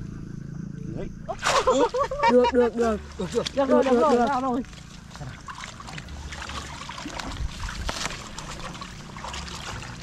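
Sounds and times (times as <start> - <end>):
shallow water sloshing and splashing: 1.3 - 10.0.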